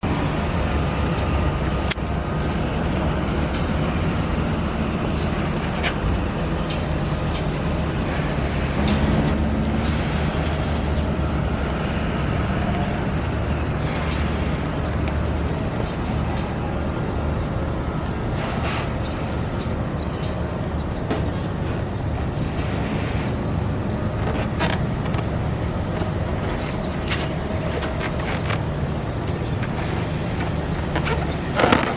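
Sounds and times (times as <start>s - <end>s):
low background rumble: 0.0s - 31.9s.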